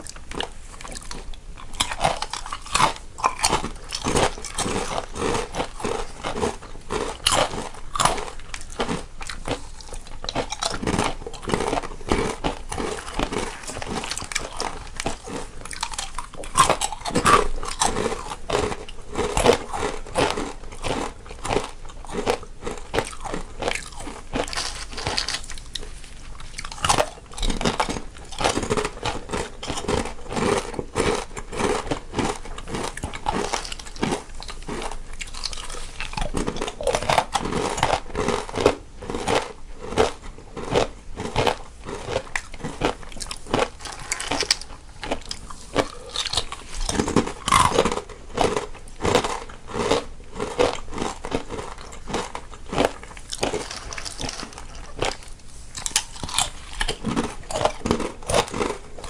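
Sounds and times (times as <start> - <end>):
people chewing crunchy snacks: 0.0 - 59.0.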